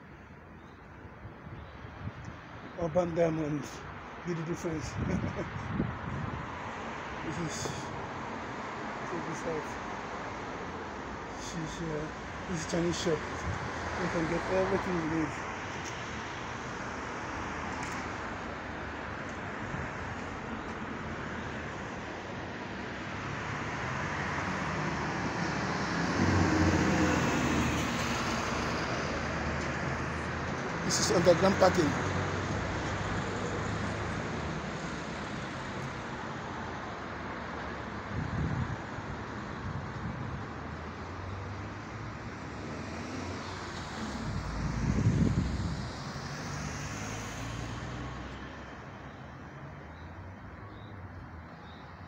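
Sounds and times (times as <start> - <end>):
city traffic noise: 0.0 - 52.0.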